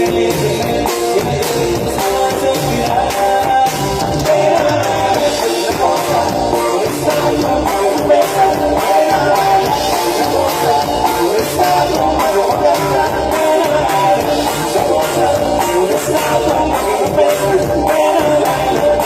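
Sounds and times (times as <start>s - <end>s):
drum kit: 0.0s - 19.0s
electric guitar: 0.0s - 19.0s
person singing: 0.0s - 19.0s.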